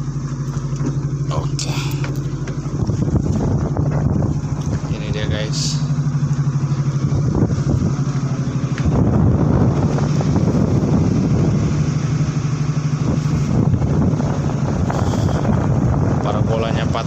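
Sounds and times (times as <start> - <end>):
boat machinery humming: 0.0 - 17.0
wind buffeting microphone: 0.0 - 17.0.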